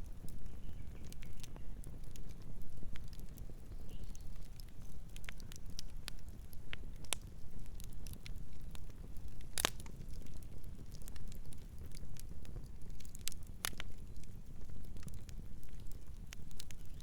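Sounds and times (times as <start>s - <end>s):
campfire wood crackling: 0.0s - 17.0s
low fire rumble: 0.0s - 17.0s.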